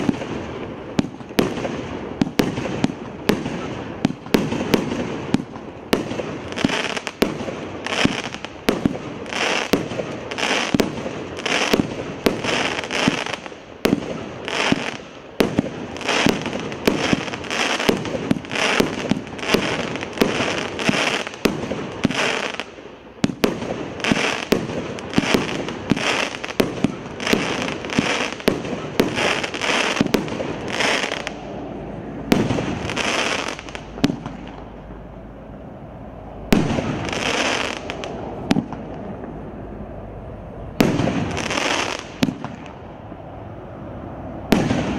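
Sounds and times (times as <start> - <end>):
fireworks launching and bursting: 0.0 - 34.9, 36.5 - 39.4, 40.7 - 42.9, 44.4 - 44.9.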